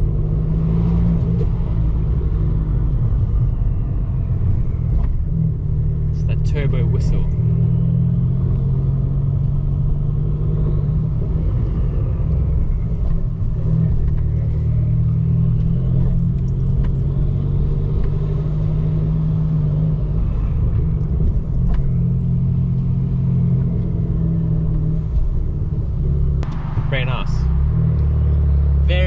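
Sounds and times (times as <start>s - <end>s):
car engine droning: 0.0s - 29.0s.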